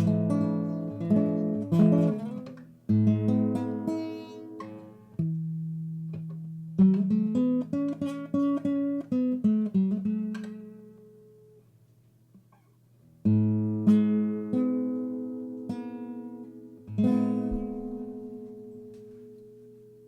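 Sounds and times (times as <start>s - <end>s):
acoustic guitar playing: 0.0s - 11.8s, 12.5s - 20.0s.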